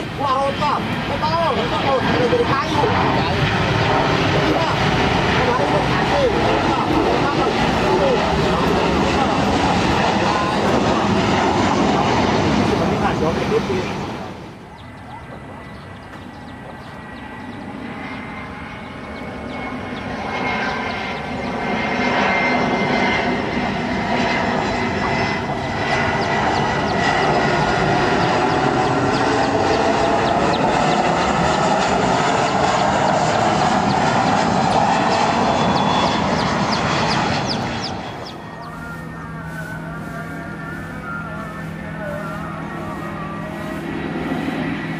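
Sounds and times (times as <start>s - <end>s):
jet engine noise with whine: 0.0s - 44.9s.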